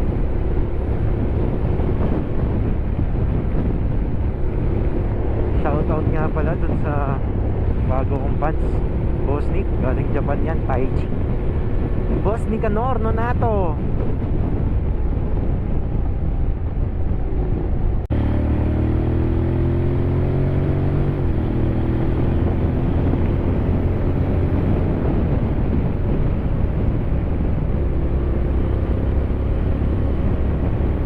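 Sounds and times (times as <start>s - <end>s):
motorcycle engine accelerating uphill: 0.0s - 31.0s.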